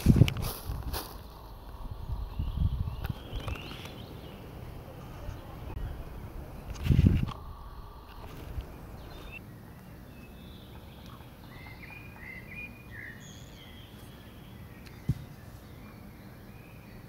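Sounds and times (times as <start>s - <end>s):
faint birdsong: 1.2s - 17.0s.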